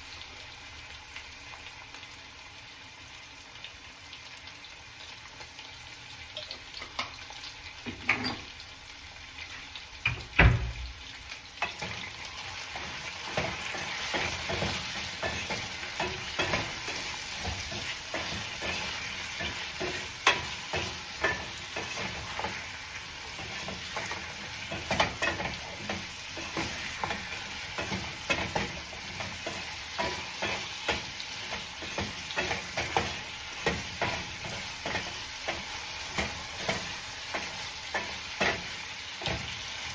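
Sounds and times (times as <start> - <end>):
potatoes sizzling in oil: 0.0 - 39.9.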